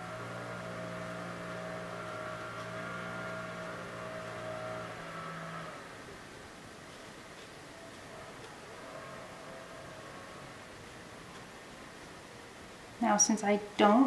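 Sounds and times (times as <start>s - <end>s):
motor humming: 0.0s - 12.5s.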